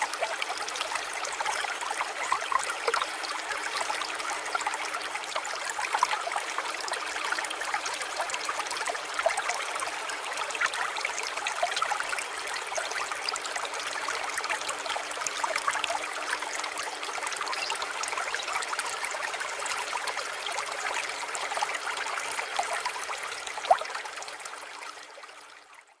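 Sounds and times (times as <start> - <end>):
water trickling and babbling: 0.0 - 26.0.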